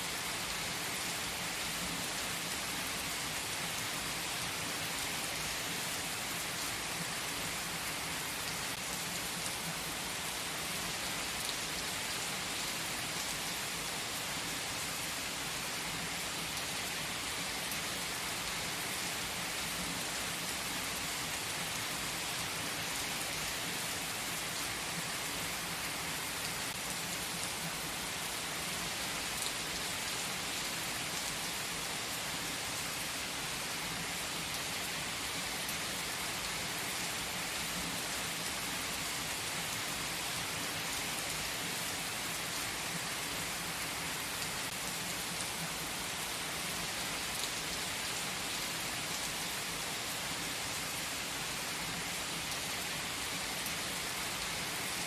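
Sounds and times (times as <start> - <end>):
rain-like hiss with patter: 0.0 - 55.0.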